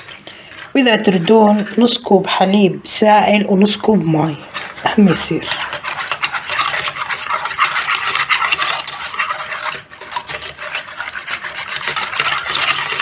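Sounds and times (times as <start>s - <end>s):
whisk beating liquid in saucepan: 0.0s - 13.0s.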